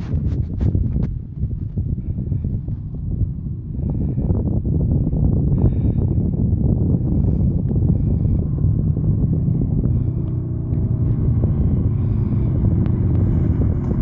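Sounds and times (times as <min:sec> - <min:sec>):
motorcycle engine rumbling: 0:00.0 - 0:14.0
wind buffeting microphone: 0:00.0 - 0:14.0.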